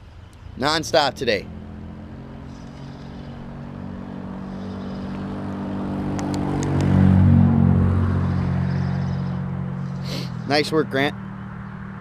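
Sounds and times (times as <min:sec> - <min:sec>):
passing vehicle engine hum: 0:00.0 - 0:12.0.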